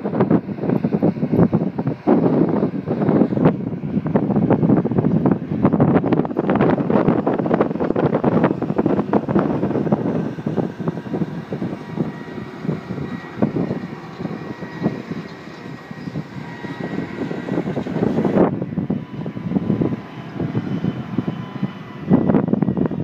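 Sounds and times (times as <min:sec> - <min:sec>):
thin steady whine: 0:00.0 - 0:23.0
tractor engines running: 0:00.0 - 0:23.0
wind buffeting microphone: 0:00.0 - 0:23.0.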